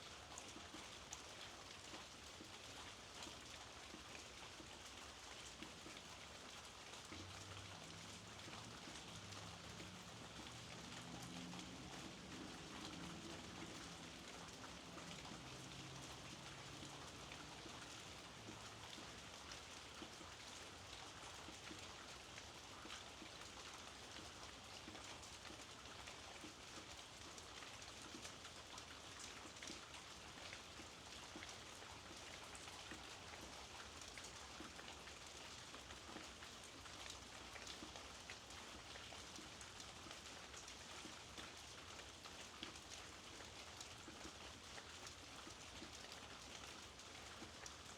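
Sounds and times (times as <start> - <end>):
soft rainfall: 0.0 - 47.9.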